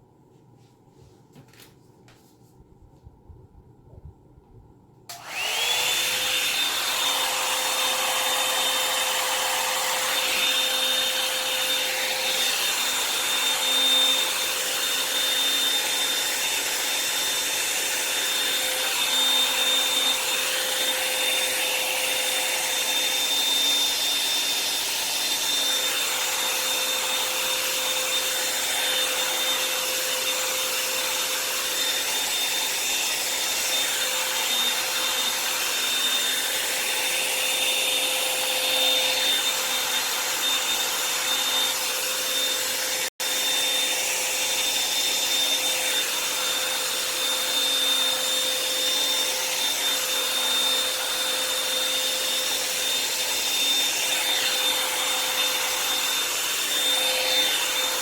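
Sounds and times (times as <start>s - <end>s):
hot-air dryer brush whining: 5.1s - 58.0s.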